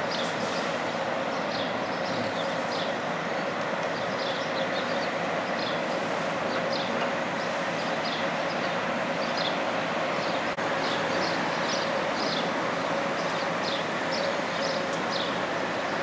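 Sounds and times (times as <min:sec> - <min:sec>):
electric tram humming and rumbling: 0:00.0 - 0:16.0
small birds chirping: 0:00.1 - 0:05.9, 0:06.5 - 0:09.6, 0:10.2 - 0:15.4.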